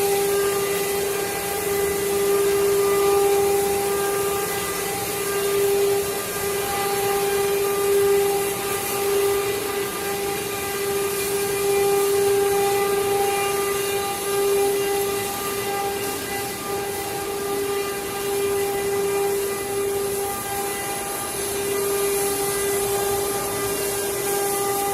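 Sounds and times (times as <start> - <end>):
router spindle high whine: 0.0 - 24.9.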